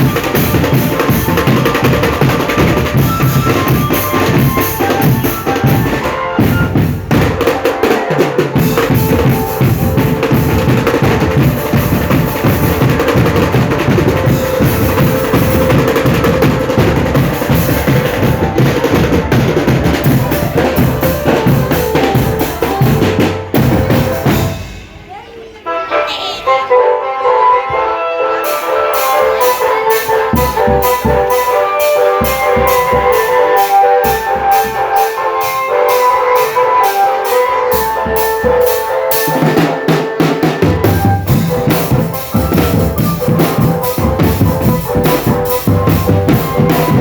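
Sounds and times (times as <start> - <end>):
held melody line: 0.0 - 24.7, 25.8 - 47.0
drum band playing: 0.0 - 26.2, 28.4 - 47.0.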